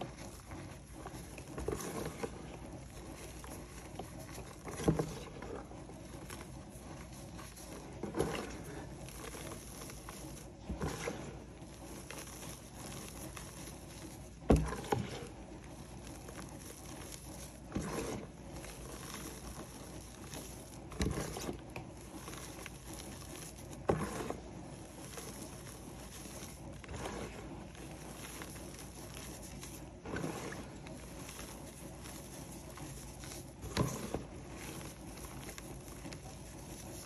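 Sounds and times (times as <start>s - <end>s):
gritty crunch of chalk: 0.0s - 37.0s.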